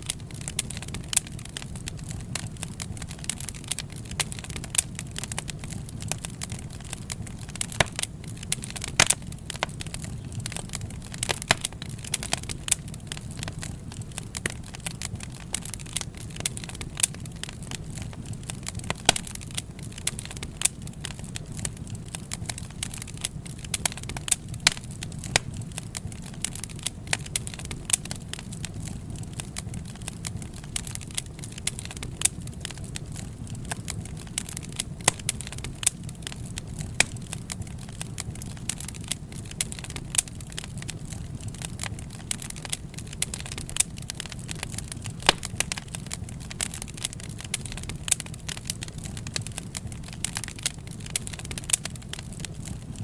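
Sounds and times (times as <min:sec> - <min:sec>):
burning wood crackling and popping: 0:00.0 - 0:53.0
low rumble of flames: 0:00.0 - 0:53.0.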